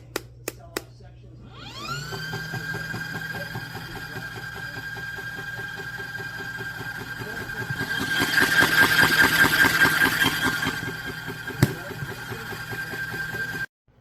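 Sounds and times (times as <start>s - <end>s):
motor running with whine: 1.3s - 13.7s.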